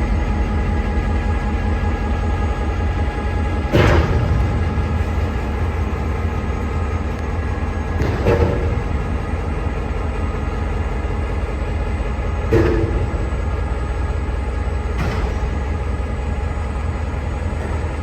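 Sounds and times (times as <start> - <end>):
diesel locomotive rumbling: 0.0 - 18.0.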